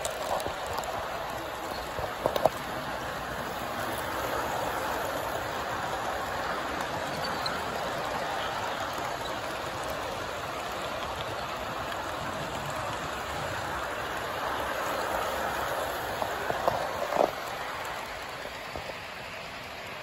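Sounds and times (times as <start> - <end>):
model train wheels rattling: 0.0 - 20.0.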